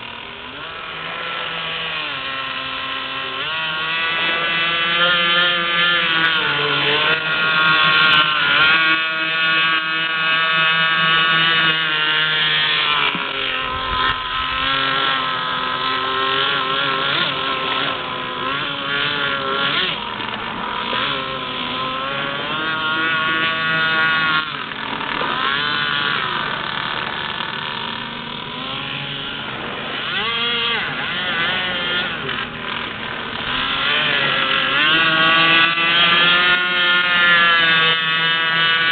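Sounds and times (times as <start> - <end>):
rc speedboat engine: 0.0 - 38.9.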